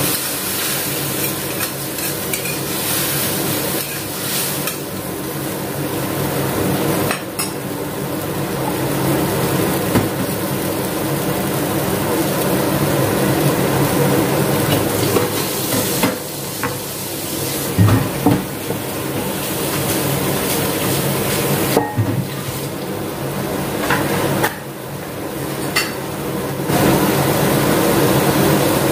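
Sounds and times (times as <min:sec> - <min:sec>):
mushrooms sizzling in a pan: 0:00.0 - 0:28.9.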